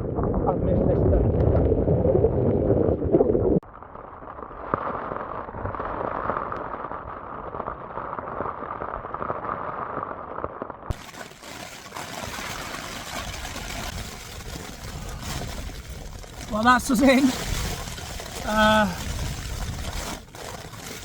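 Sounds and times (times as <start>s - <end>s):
wind: 0.0s - 21.0s
steady rain: 3.7s - 21.0s.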